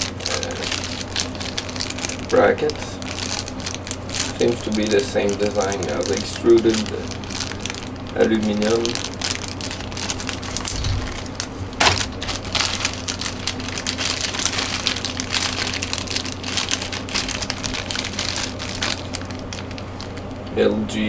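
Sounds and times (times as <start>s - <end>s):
plastic bags crinkling: 0.0s - 20.5s.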